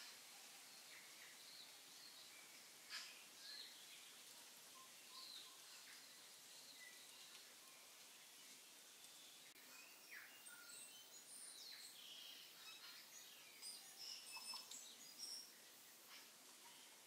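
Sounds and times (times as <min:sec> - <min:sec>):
quiet background hiss: 0:00.0 - 0:17.0
small birds chirping: 0:00.0 - 0:17.0.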